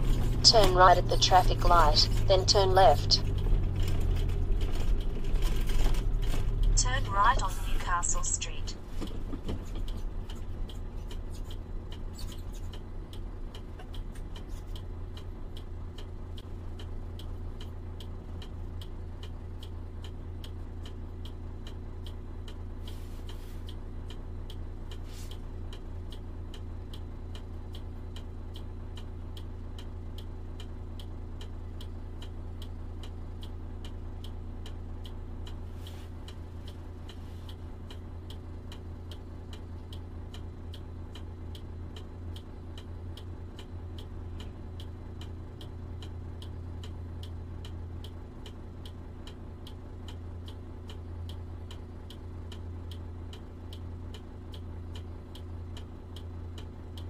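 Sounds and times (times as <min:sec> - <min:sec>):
truck engine idling: 0:00.0 - 0:57.0
turn indicator clicking: 0:08.7 - 0:57.0.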